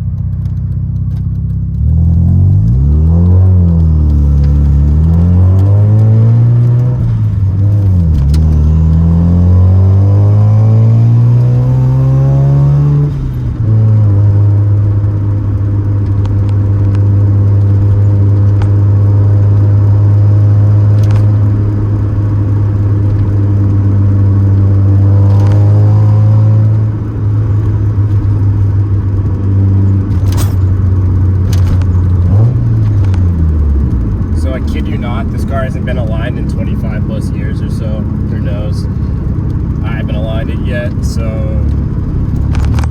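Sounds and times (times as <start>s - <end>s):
rotary engine accelerating: 1.4s - 42.9s.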